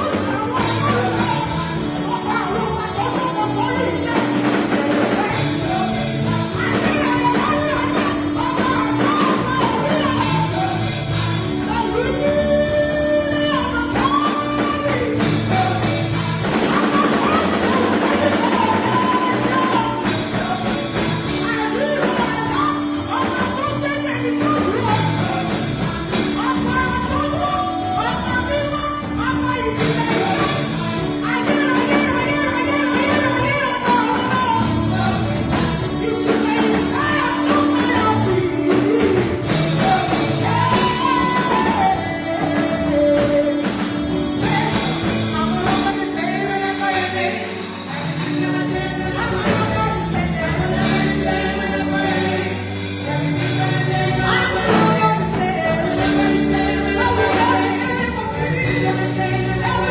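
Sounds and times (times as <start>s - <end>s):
band accompaniment: 0.0s - 59.9s
worship singing: 0.0s - 59.9s.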